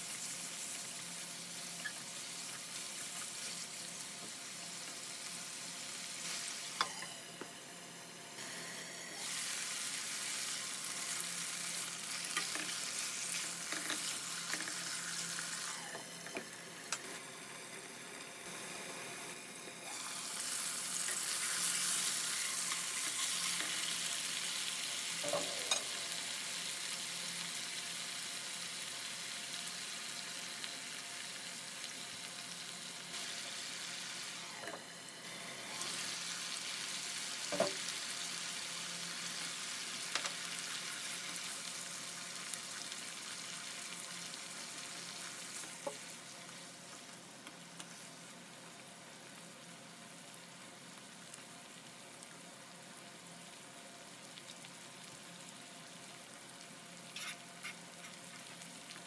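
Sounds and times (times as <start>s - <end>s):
chicken sizzling in a pan: 0.0s - 59.0s.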